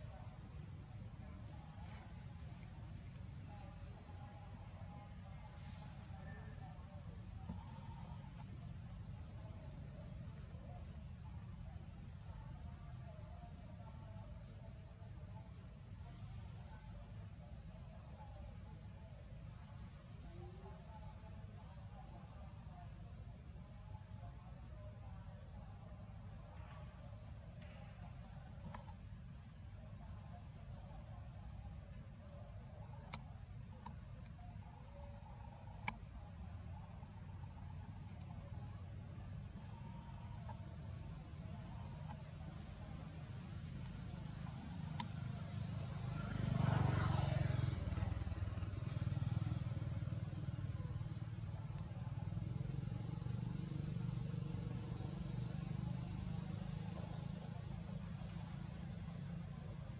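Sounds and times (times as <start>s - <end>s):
insects singing: 0.0s - 59.9s.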